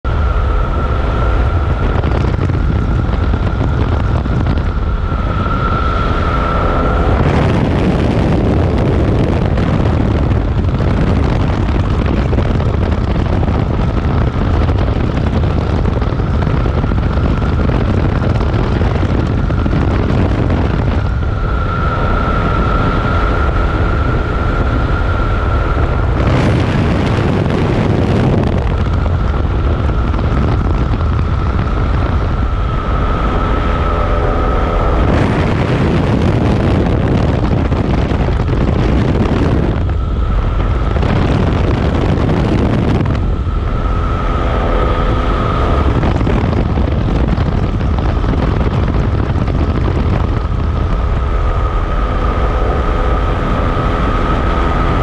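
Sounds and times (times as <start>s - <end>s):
high whine: 0.0s - 55.0s
vehicle rumble: 0.0s - 55.0s
wind noise on microphone: 0.0s - 55.0s.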